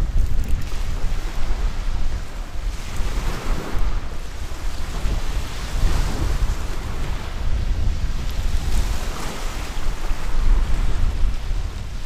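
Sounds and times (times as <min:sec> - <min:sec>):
waves washing onto pebble beach: 0:00.0 - 0:12.0
wind buffeting microphone: 0:00.0 - 0:12.0.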